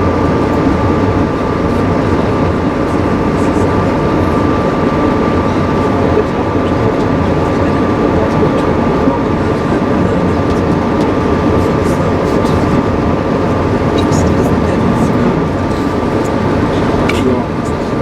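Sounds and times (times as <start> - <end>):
constant high hum: 0.0 - 18.0
train rumble: 0.0 - 18.0.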